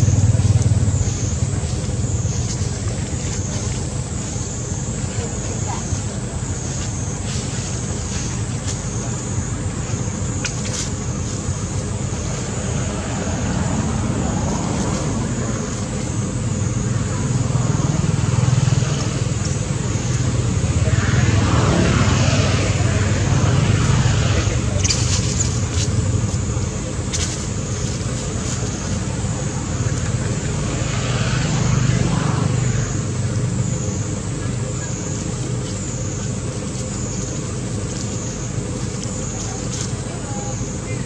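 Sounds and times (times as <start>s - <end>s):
faint high whine: 0.0s - 41.0s
low outdoor rumble: 0.0s - 41.0s.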